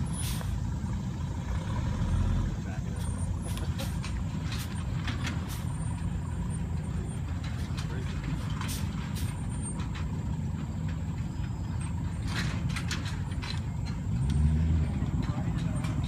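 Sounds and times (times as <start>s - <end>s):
truck engine running: 0.0s - 16.0s
knocks and rattles: 2.9s - 16.0s.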